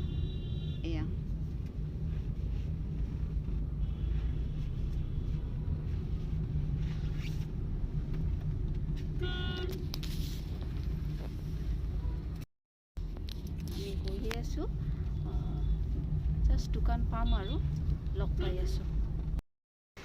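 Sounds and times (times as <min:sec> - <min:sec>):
vehicle rumbling: 0:00.0 - 0:19.4.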